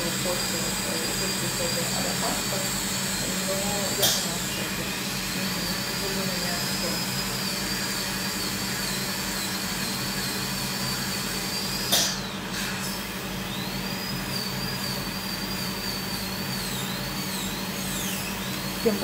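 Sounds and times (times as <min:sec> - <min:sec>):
dental drill whining: 0:00.0 - 0:19.0.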